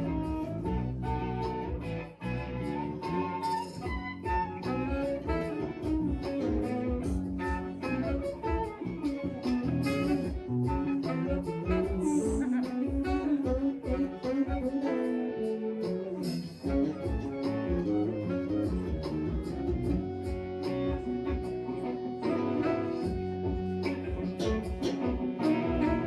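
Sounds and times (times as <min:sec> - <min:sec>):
electric guitar: 0:00.0 - 0:26.0
live band instrumental: 0:00.0 - 0:26.0
saxophone: 0:00.0 - 0:26.0.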